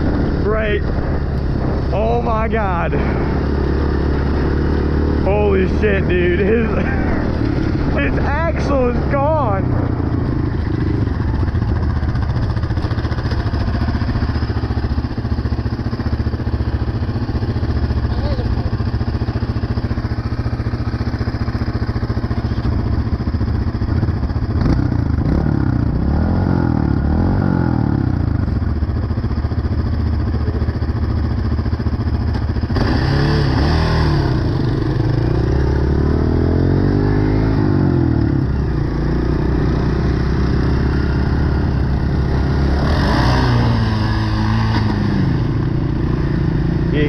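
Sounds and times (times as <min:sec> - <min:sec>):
off-road engine revving: 0:00.0 - 0:15.5, 0:17.3 - 0:28.6, 0:32.3 - 0:47.0.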